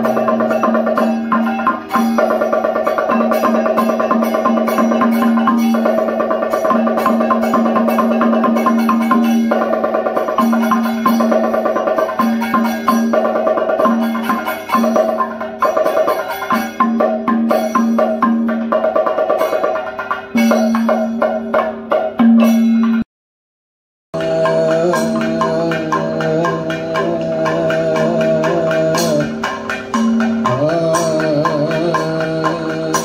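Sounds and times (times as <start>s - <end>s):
held drone tone: 0.0s - 18.3s, 24.2s - 33.0s
drums beaten quickly: 0.0s - 23.0s, 24.2s - 33.0s
gong and cymbals ringing: 0.0s - 23.0s, 24.2s - 33.0s.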